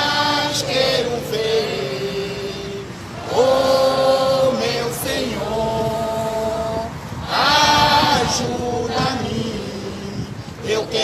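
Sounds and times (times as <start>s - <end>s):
group singing long held notes: 0.0s - 11.0s.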